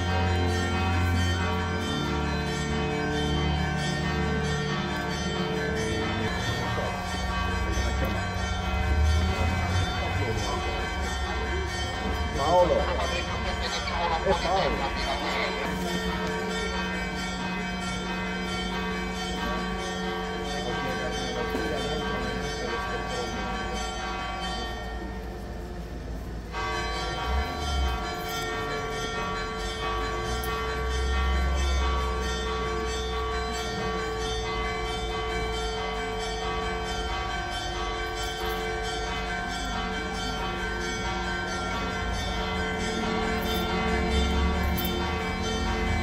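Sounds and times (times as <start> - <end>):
church bells ringing: 0.0 - 46.0.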